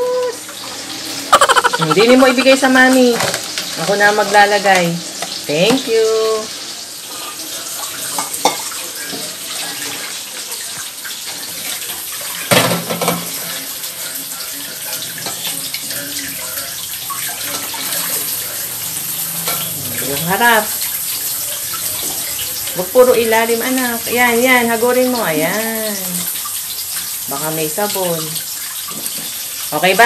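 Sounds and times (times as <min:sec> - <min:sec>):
tap water running into sink: 0:00.0 - 0:30.0.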